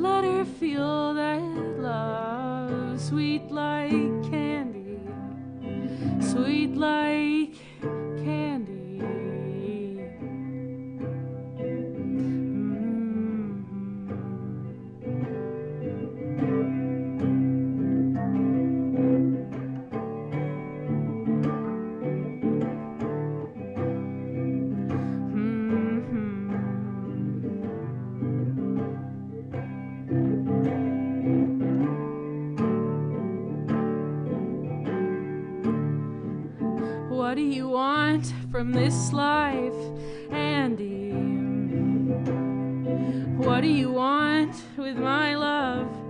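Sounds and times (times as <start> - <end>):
guitar playing chords: 0.0 - 46.0.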